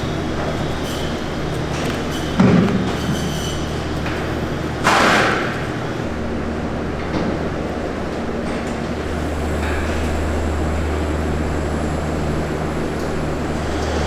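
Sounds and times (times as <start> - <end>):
machinery rumble and hum: 0.0 - 14.0.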